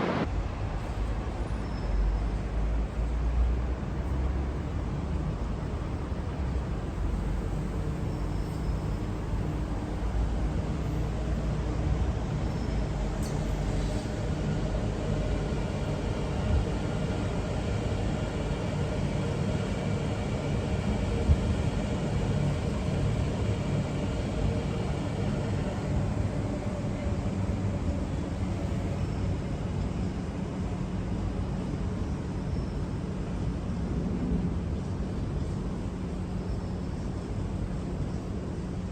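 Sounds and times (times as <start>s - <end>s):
faint train whine: 0.0s - 38.9s
train rumbling on track: 0.0s - 38.9s.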